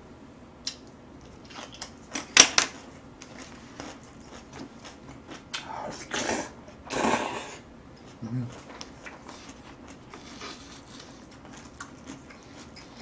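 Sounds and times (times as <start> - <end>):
chewing: 0.6 - 6.2, 8.0 - 13.0.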